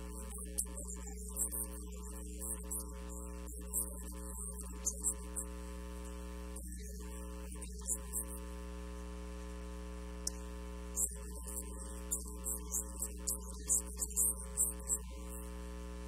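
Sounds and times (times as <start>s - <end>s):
electrical mains hum: 0.0s - 16.0s
faint high hissy ticks: 0.0s - 16.0s.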